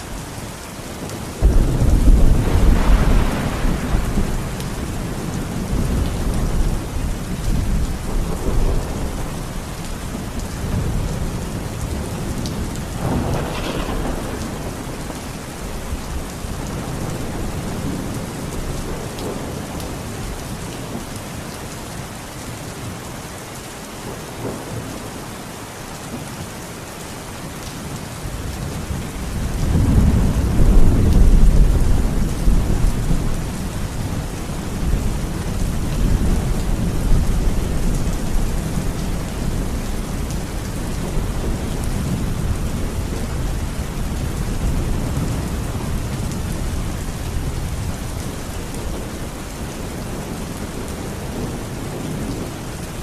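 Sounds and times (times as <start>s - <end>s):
heavy rain falling: 0.0s - 53.0s
thunder rumbling: 1.0s - 21.0s, 28.2s - 53.0s.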